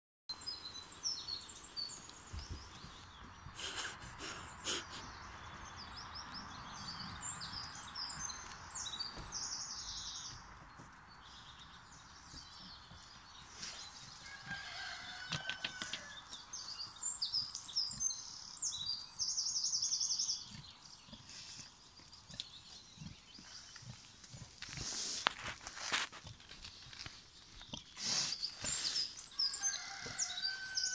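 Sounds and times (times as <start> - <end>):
songbird singing with trill: 0.3 - 24.2, 26.7 - 30.9.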